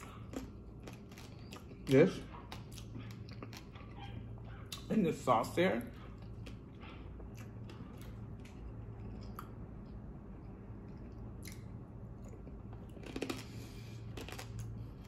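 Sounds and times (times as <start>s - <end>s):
person chewing food: 0.0s - 5.0s, 5.8s - 15.0s
steady low hum: 0.0s - 15.0s.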